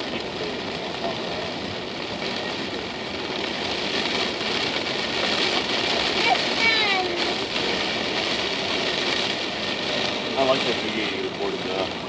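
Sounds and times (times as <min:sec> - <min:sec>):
car road and engine noise: 0:00.0 - 0:12.0
heavy rain on a car: 0:00.0 - 0:12.0.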